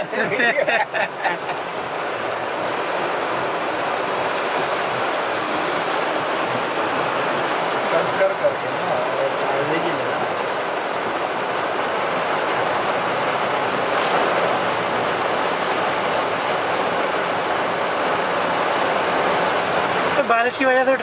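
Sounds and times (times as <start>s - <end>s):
heavy rain on car roof: 0.0s - 21.0s.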